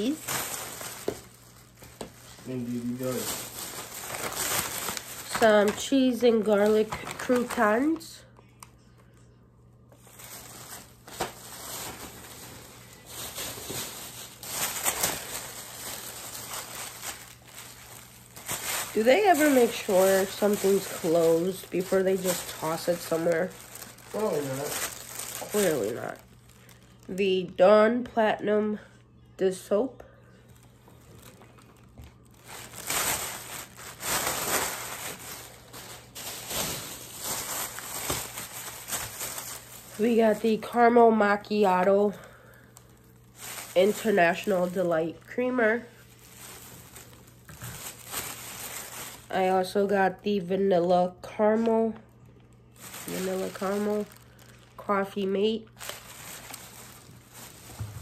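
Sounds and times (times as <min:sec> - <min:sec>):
plastic bag rustling and crinkling: 0:00.0 - 0:08.2, 0:09.9 - 0:27.6, 0:30.4 - 0:50.4, 0:51.2 - 0:58.0.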